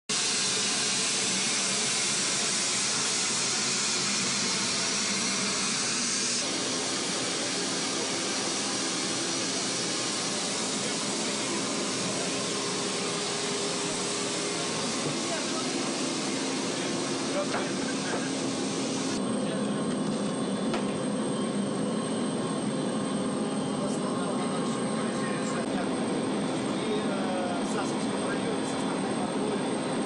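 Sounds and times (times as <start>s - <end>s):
jet engines rushing: 0.4s - 30.0s.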